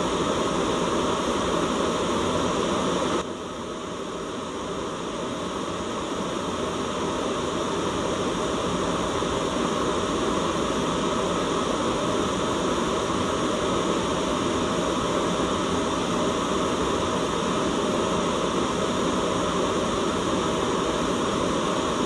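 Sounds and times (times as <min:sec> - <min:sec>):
white noise hiss: 0:00.0 - 0:22.0.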